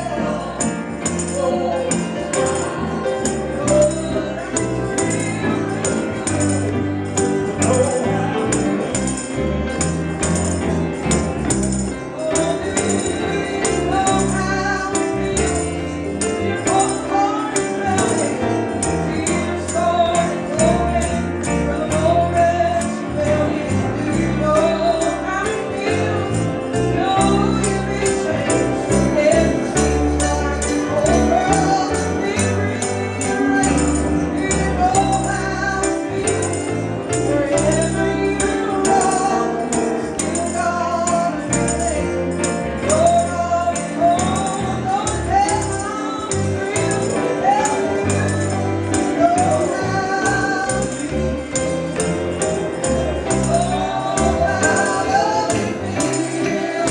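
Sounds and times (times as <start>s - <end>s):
song with jingling percussion: 0.0s - 56.9s.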